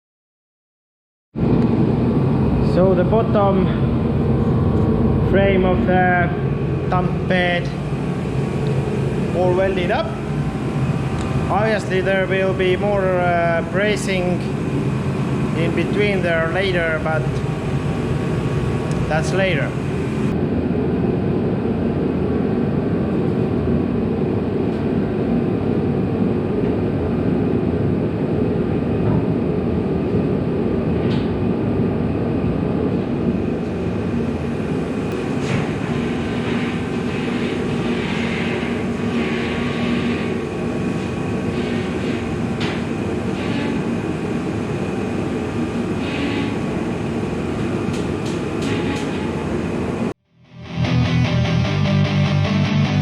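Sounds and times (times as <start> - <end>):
low mechanical rumble: 1.4 - 50.2.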